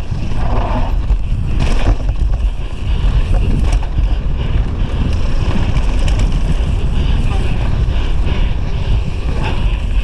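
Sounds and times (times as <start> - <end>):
wind buffeting microphone: 0.0 - 10.0
sharp clicks and rattles: 0.3 - 8.3.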